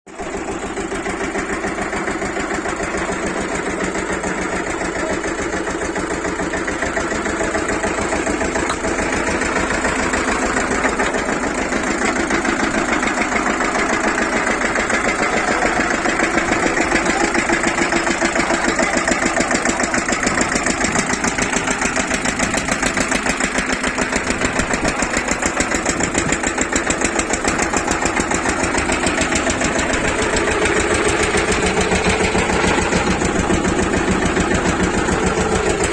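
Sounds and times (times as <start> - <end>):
drilling machine engine running: 0.1 - 35.9.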